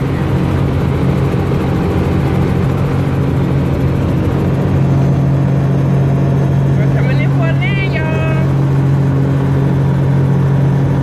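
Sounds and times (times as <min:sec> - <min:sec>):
helicopter engine and rotors: 0:00.0 - 0:11.0.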